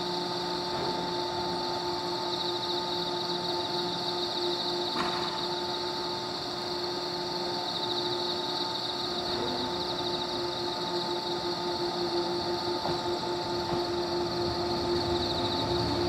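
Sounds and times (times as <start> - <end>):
electric train hum: 0.0 - 16.0
night insects chirring: 0.0 - 16.0.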